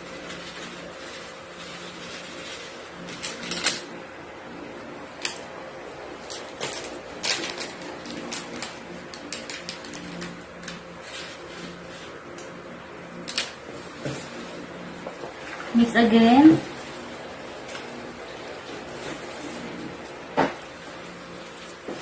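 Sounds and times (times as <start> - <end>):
plastic gloves rustling: 0.0 - 22.0.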